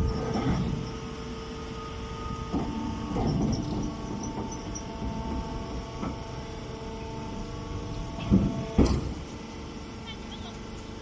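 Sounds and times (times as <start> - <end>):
electric motor and pump humming: 0.0 - 11.0.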